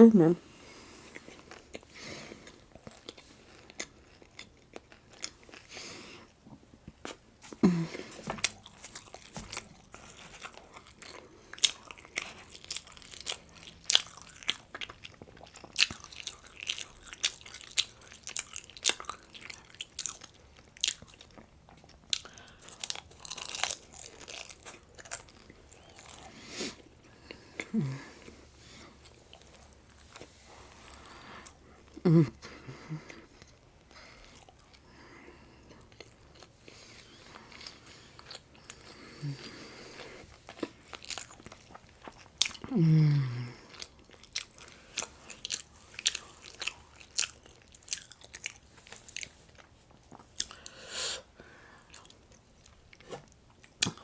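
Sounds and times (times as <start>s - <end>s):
person chewing crunchy food: 0.6s - 54.0s.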